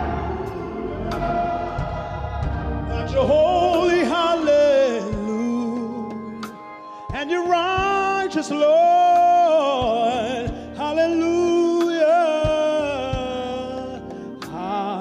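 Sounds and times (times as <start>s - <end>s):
man singing gospel into microphone: 0.0s - 15.0s.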